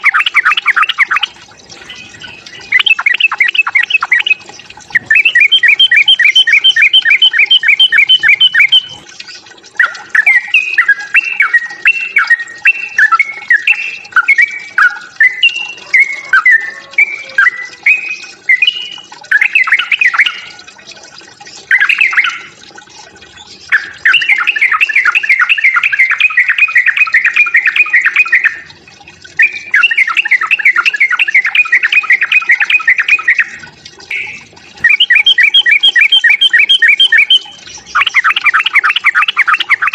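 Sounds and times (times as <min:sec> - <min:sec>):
bulbul rapid chattering call: 0:00.0 - 0:28.7, 0:29.4 - 0:39.9.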